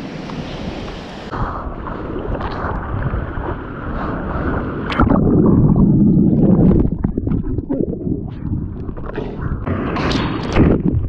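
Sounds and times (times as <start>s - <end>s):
water splashing and rushing: 0.0s - 11.0s
muffled underwater churning: 0.3s - 11.0s
water bubbling: 1.3s - 11.0s.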